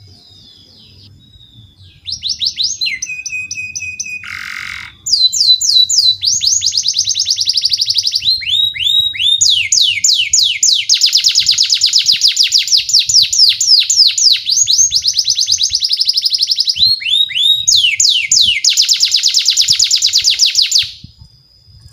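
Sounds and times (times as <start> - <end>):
canary singing trills: 0.0 - 21.1.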